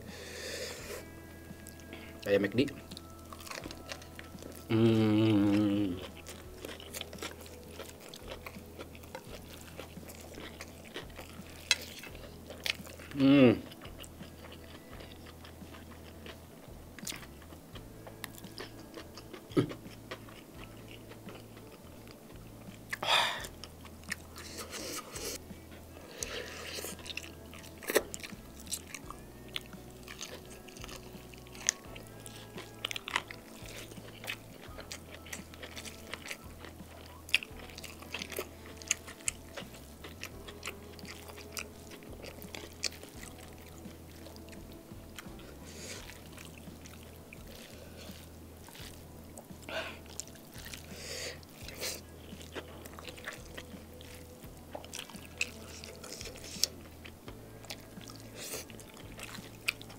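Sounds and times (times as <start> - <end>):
wet chewing: 0.8 - 59.9
food squelching by hand: 2.6 - 59.9.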